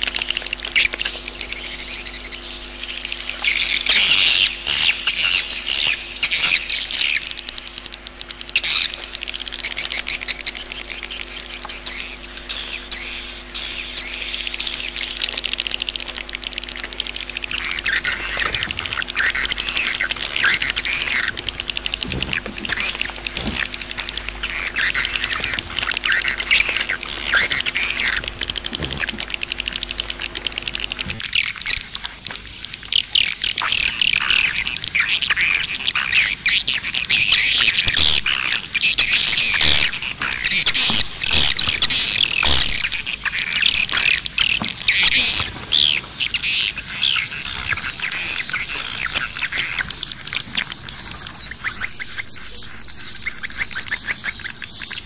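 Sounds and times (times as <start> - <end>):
steady low hum: 0.0 - 55.0
swiftlets twittering: 0.0 - 55.0.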